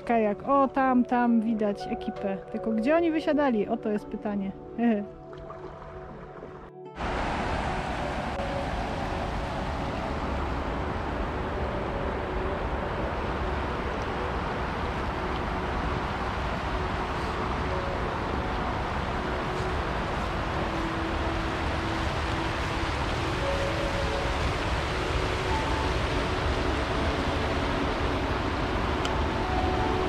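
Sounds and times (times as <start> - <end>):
river water rushing over weir: 5.4 - 30.0.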